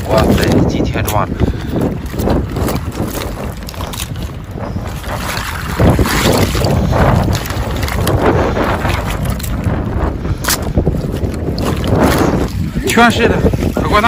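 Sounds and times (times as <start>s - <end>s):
shallow seawater sloshing: 0.0s - 14.0s
wind buffeting microphone: 0.0s - 14.0s.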